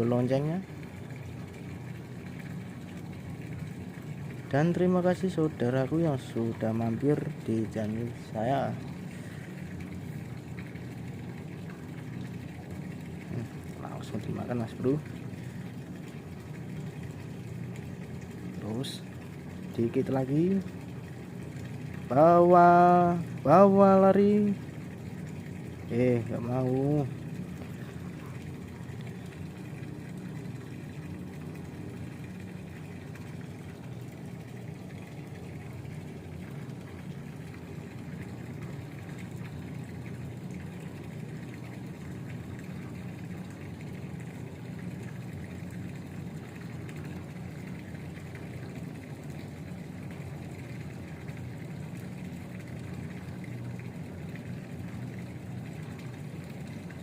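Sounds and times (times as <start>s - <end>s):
flowing river water: 0.0s - 57.0s.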